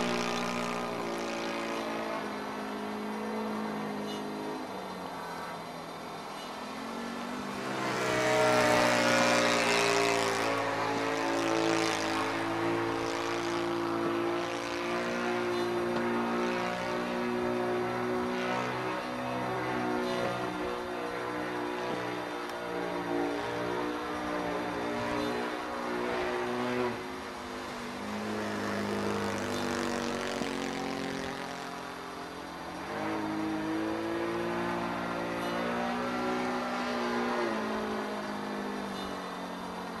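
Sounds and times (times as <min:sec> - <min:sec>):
model plane engine buzzing: 0:00.0 - 0:40.0.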